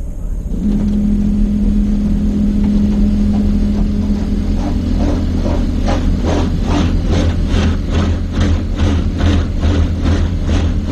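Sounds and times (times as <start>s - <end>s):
car engine idling: 0.0s - 10.9s
car wash machine hum: 0.0s - 10.9s.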